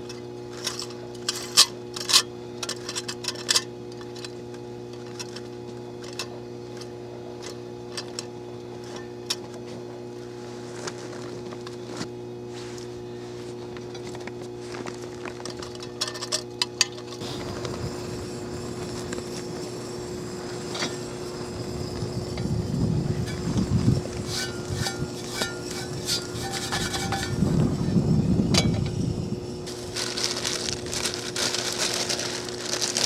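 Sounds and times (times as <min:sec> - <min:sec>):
camp cookware clinking: 0:00.0 - 0:09.8, 0:15.2 - 0:33.0
electrical transformer hum: 0:00.0 - 0:33.0
handling and rustling: 0:00.0 - 0:33.0.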